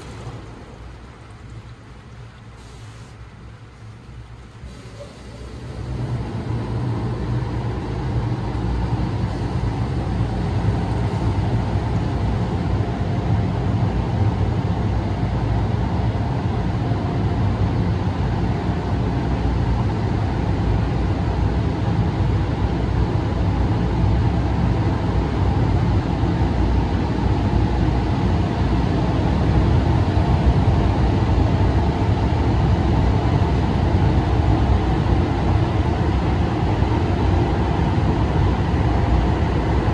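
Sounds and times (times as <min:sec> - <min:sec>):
muffled car wash machine rumbling: 0:00.0 - 0:39.9.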